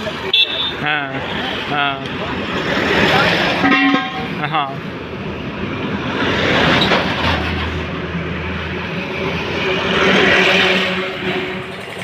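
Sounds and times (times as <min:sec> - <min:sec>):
diesel truck engine hum: 0:00.0 - 0:12.0
tyre and road noise: 0:00.0 - 0:12.0.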